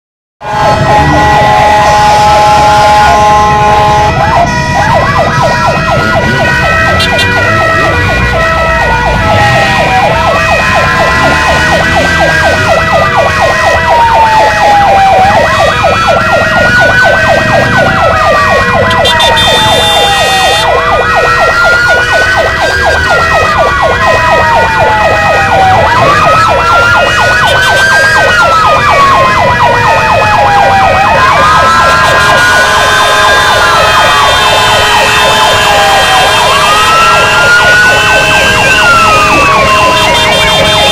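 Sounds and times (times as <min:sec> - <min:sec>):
siren wailing: 0:00.4 - 0:40.9
siren warbling: 0:00.4 - 0:40.9.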